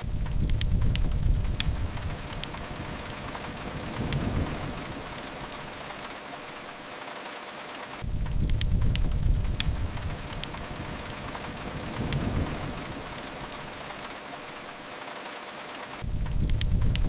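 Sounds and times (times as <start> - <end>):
low rumble: 0.0 - 6.7, 8.0 - 14.7, 16.0 - 17.0
rain falling on a window: 0.0 - 17.0
wood fire crackling: 0.0 - 17.0.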